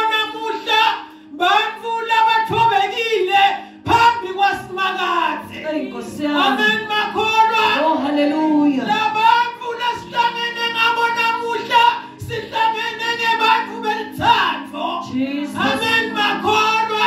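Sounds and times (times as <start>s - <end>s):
sustained accompanying chords: 0.0s - 17.0s
voices holding long notes: 0.0s - 17.0s.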